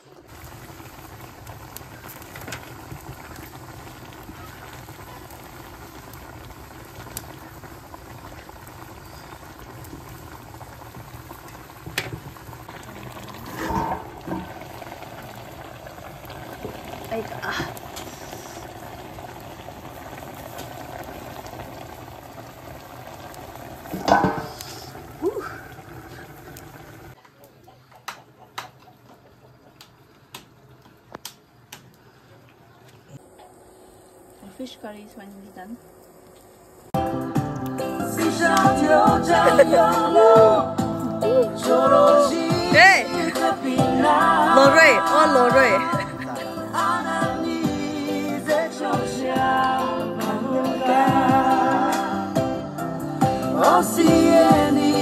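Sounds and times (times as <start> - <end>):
pot bubbling as it boils: 0.0 - 49.8, 53.0 - 55.0.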